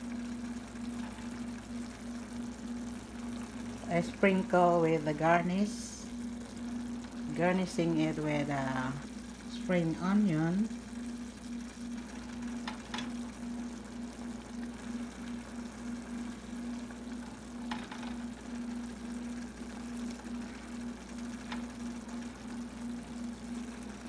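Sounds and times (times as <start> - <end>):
low pulsing motor hum: 0.0 - 24.0.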